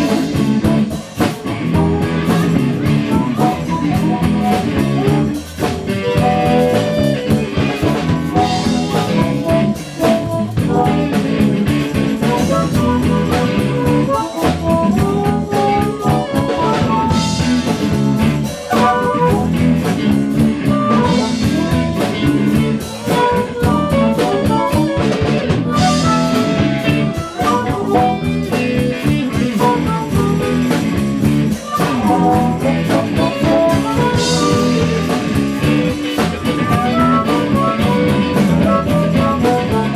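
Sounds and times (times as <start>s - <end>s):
blues band playing: 0.0s - 39.9s
harmonica: 0.0s - 39.9s.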